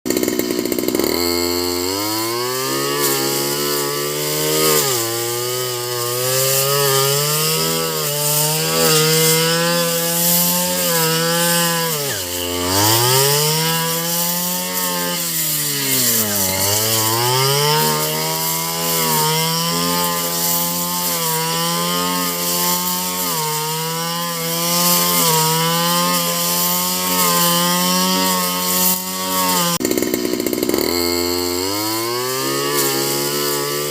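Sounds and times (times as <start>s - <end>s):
small engine running: 0.1s - 33.9s.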